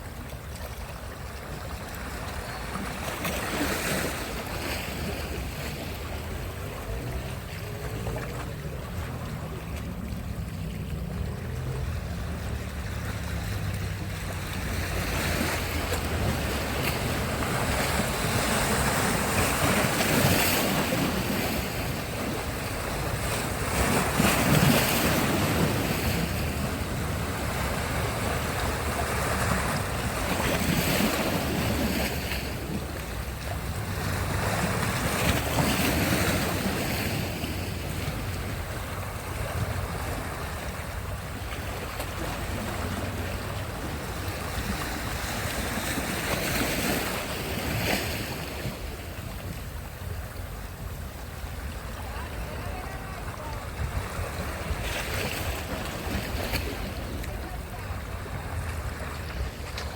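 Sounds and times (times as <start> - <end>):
sea surf breaking on shore: 0.0 - 59.9.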